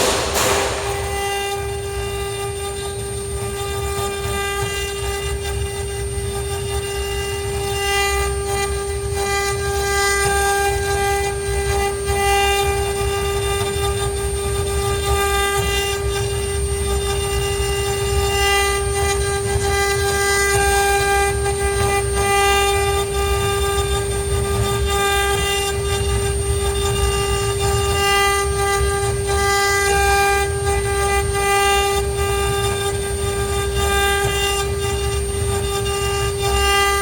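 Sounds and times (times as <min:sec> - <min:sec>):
router spindle whine: 0:00.0 - 0:37.0.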